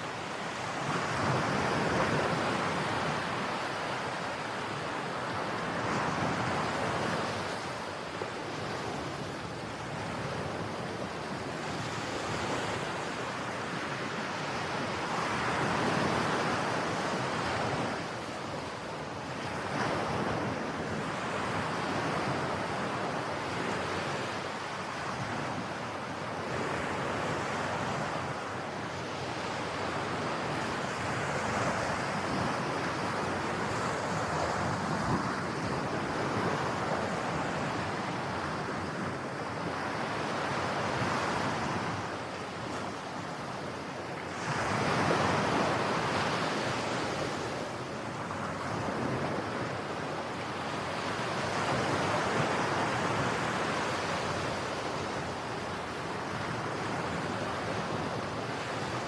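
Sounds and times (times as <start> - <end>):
ocean waves breaking on shore: 0.0 - 59.0
wind on microphone: 0.0 - 59.0.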